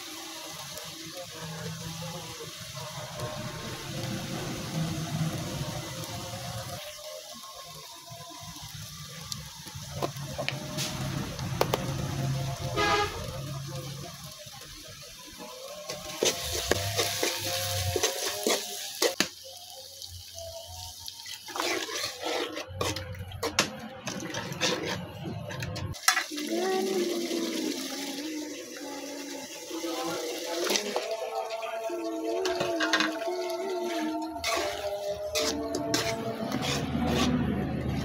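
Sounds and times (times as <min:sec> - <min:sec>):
masala sizzling in oil: 0:00.0 - 0:38.0.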